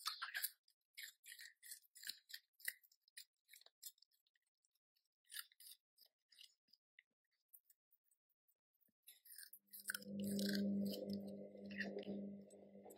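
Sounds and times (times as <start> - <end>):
puppy crunching a carrot: 0.0 - 7.8, 9.0 - 12.9.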